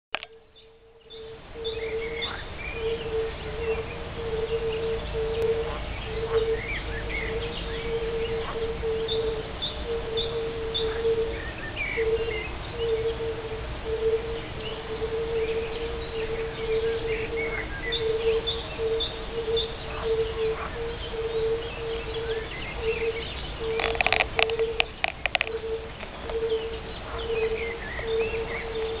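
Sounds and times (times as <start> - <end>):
birds chirping: 0.1 - 29.0
toads calling with soft oop notes: 0.1 - 29.0.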